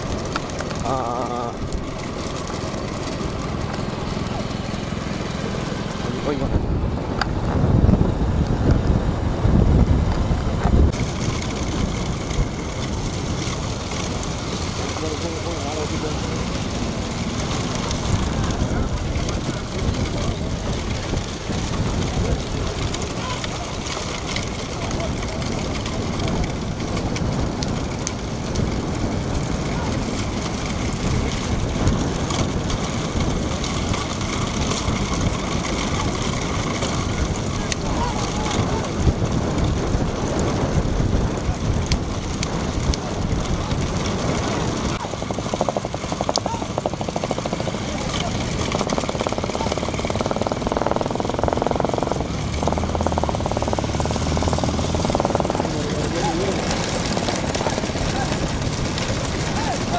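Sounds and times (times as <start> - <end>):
motorcycle running: 0.0 - 59.9
wind buffeting microphone: 0.0 - 59.9.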